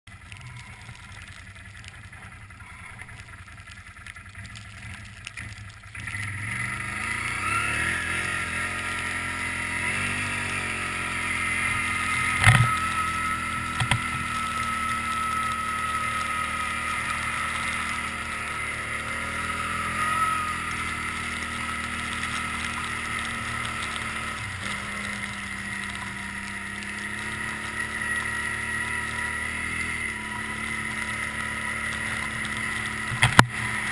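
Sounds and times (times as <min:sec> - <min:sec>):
atv engine running and revving: 0:00.1 - 0:33.9.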